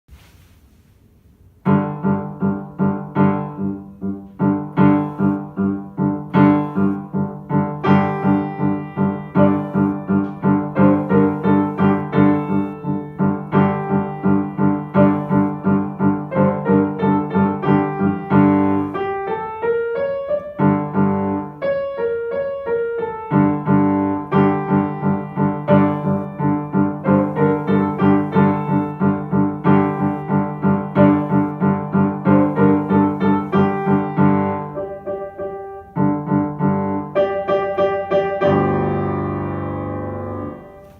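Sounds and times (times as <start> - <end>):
piano playing: 1.4 - 40.9.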